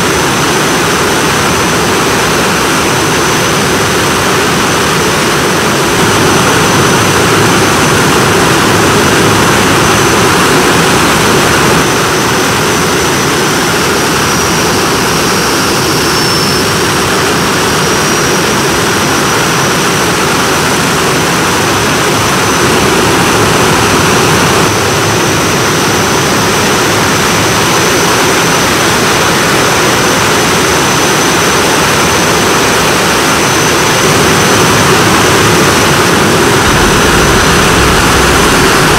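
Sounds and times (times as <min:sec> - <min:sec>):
high-pitched engine whine: 0:00.0 - 0:38.9
jet engine idling: 0:00.0 - 0:38.9.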